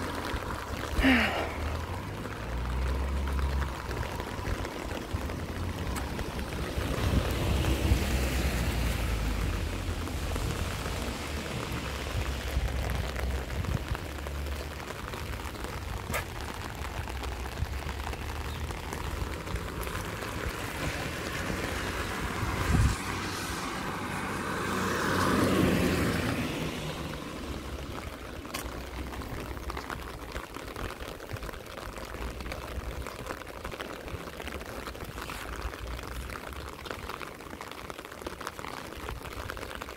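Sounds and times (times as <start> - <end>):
rain on wet street: 0.0 - 39.9
vehicle passing on wet road: 0.0 - 39.9.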